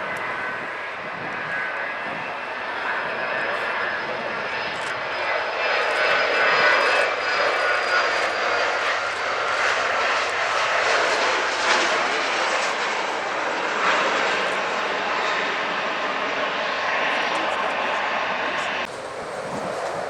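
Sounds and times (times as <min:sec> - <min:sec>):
airliner engines passing: 0:00.0 - 0:20.0.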